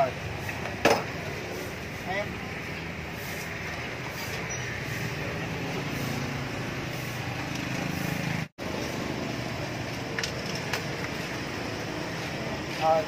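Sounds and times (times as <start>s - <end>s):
motorbikes and cars passing: 0.0s - 13.0s.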